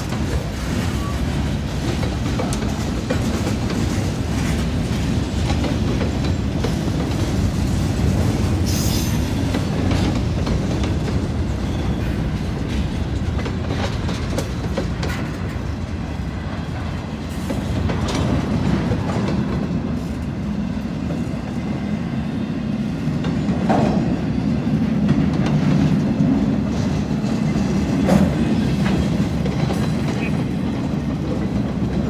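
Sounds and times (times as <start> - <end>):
wheels clacking over rail joints: 0.0 - 20.3, 23.1 - 32.0
train wheels rumbling on rail: 0.0 - 32.0.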